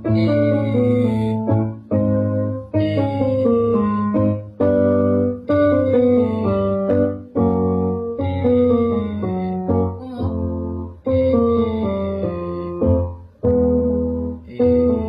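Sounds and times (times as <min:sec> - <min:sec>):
piano playing scale pattern: 0:00.0 - 0:15.0.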